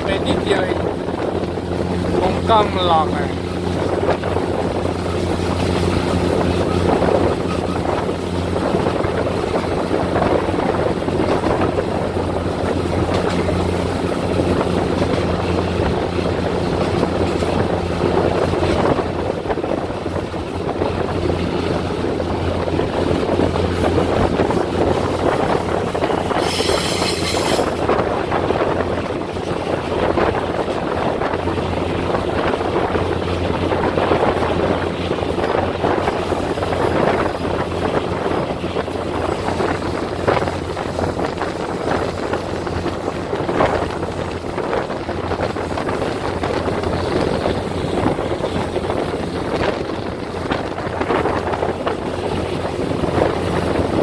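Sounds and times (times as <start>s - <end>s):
train engine hum: 0.0s - 54.0s
wheels rumbling on rail: 0.0s - 54.0s.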